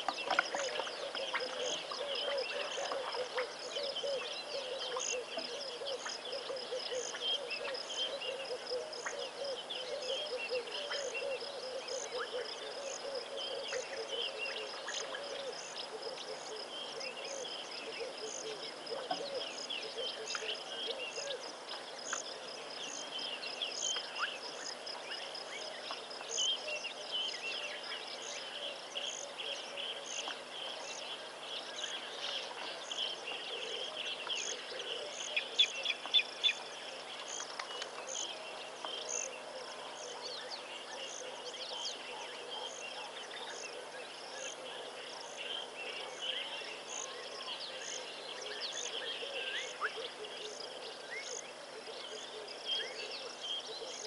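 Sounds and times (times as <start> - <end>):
bird calls: 0.0 - 54.0
busy insect chirping: 0.0 - 54.0.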